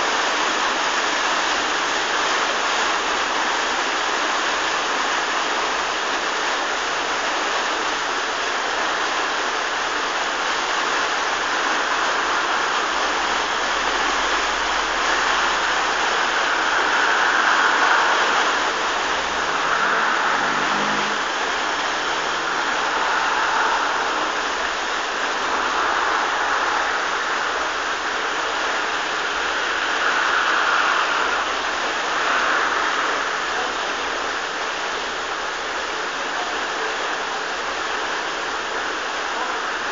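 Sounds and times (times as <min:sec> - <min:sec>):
water rushing and churning: 0:00.0 - 0:39.9.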